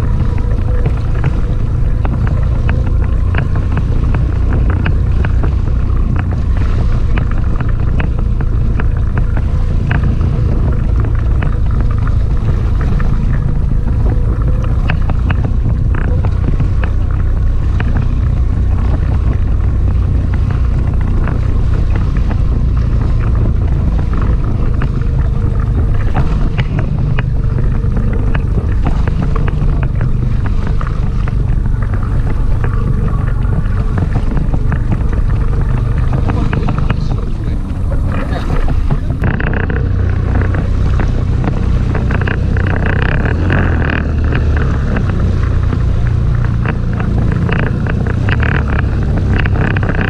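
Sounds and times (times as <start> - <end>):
waves slapping against hull: 0.0 - 50.0
wind buffeting microphone: 0.0 - 50.0.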